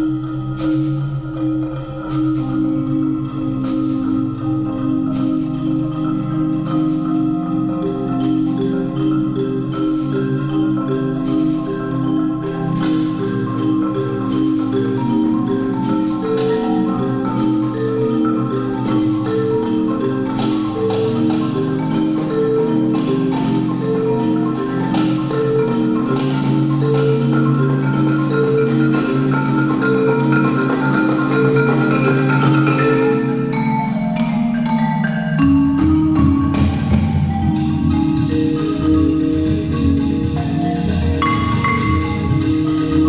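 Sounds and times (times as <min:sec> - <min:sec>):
marimbas playing fast patterns: 0:00.0 - 0:43.0.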